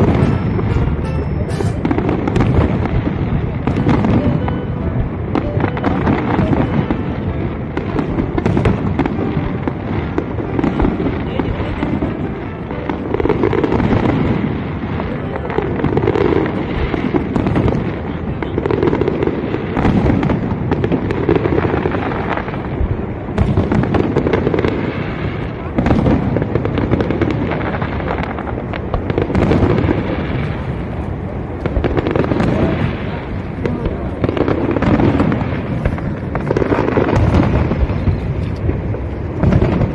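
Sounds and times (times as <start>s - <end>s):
fireworks bursting and crackling: 0.0s - 39.9s
fireworks sharp bangs: 0.0s - 39.9s.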